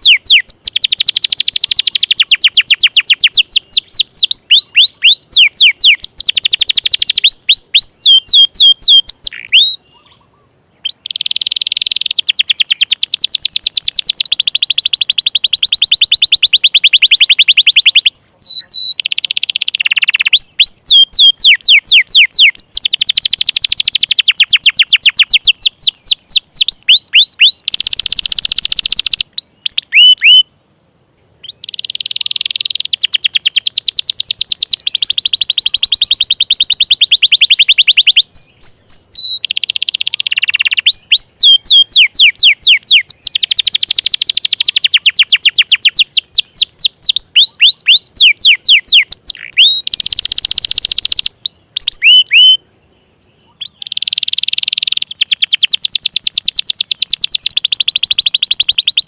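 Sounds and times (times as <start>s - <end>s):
canary singing trills and whistles: 0.0s - 30.5s, 31.4s - 52.6s, 53.4s - 59.0s.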